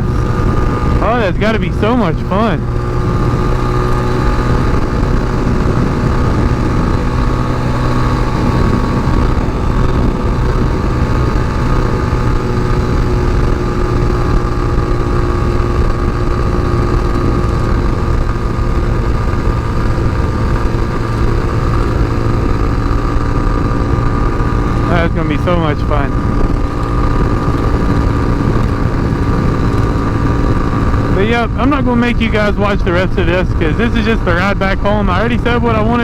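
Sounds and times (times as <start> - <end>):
motorcycle engine cruising: 0.0 - 36.0.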